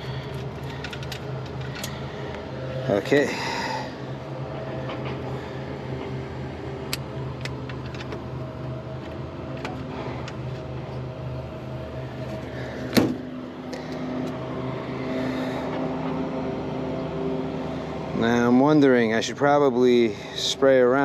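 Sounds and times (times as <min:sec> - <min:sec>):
air conditioning hum: 0:00.0 - 0:21.0.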